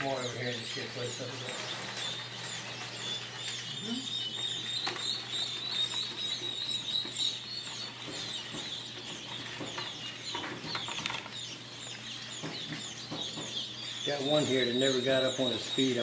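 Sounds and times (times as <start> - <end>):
quail chicks peeping: 0.0 - 16.0.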